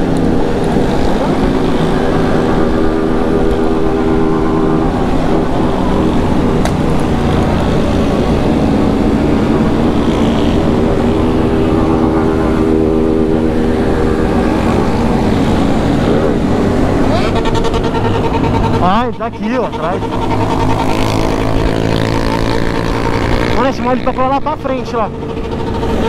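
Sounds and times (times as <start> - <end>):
motorcycle engine running: 0.0 - 26.0
other motorcycles nearby: 0.0 - 26.0.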